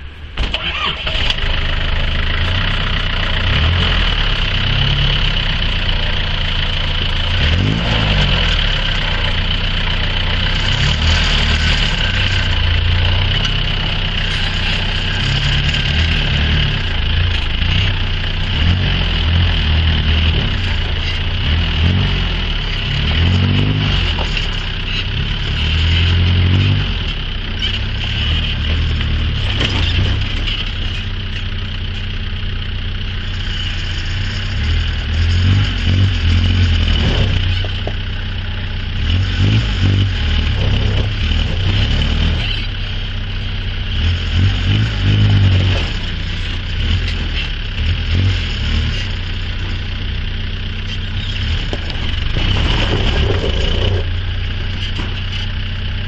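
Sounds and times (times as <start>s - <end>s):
pickup truck engine crawling: 0.0s - 56.0s.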